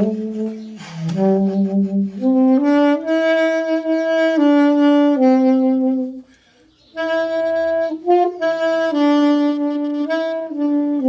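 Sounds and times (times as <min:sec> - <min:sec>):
alto saxophone held notes: 0:00.0 - 0:11.0.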